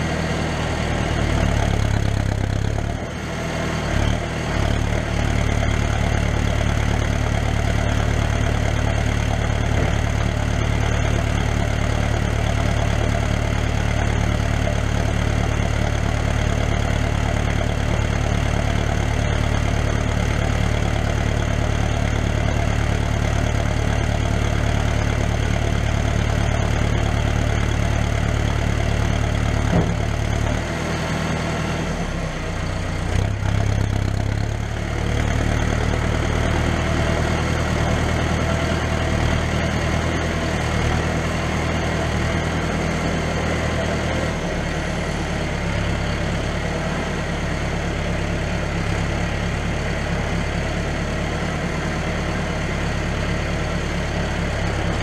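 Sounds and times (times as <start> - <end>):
dumper engine running: 0.0 - 55.0.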